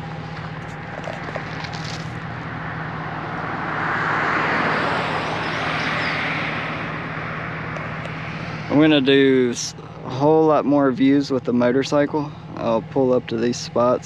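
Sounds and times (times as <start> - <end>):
low hum: 0.0 - 14.0
vehicle passing: 0.0 - 14.0.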